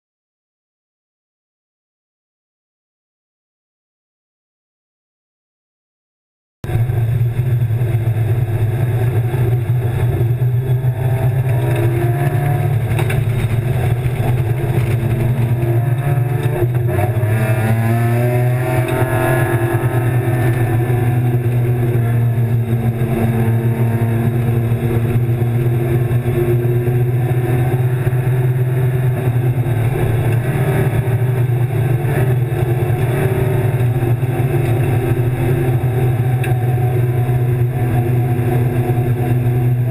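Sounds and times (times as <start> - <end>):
steady low drone: 6.6 - 39.9
race car engine revving: 6.7 - 39.9.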